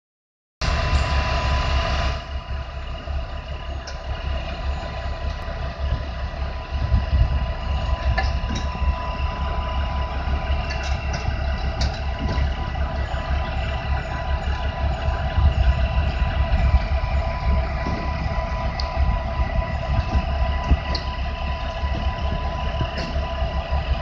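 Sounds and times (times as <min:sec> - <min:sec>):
diesel engine running steadily: 0:00.6 - 0:24.0.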